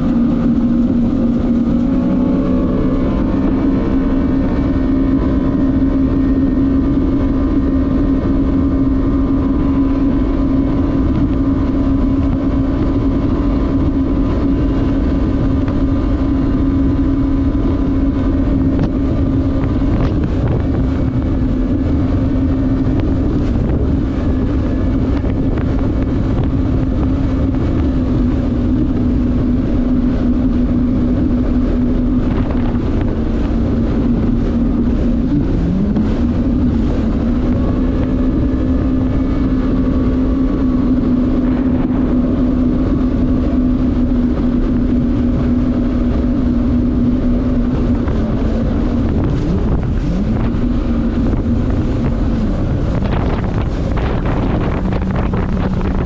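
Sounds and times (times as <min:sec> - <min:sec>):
jet ski engine running: 0:00.0 - 0:56.0.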